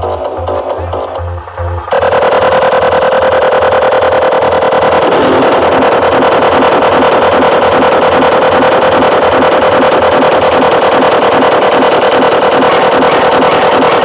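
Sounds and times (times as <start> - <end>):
loud buzzing drone over speakers: 0.0 - 14.0
low rhythmic pulsing throb: 0.0 - 14.0.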